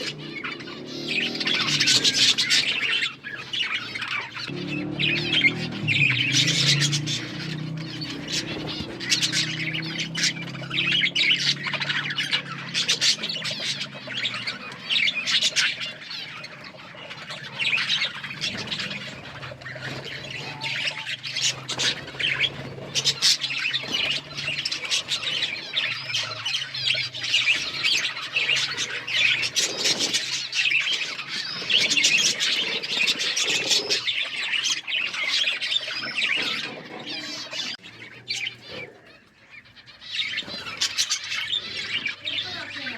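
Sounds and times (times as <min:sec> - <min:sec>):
budgerigars chattering: 0:00.0 - 0:42.9.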